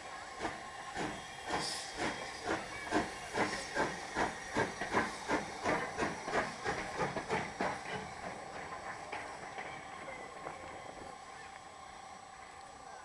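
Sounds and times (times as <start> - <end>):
steam locomotive exhaust beats: 0.0 - 12.8
steam hissing: 0.0 - 13.0.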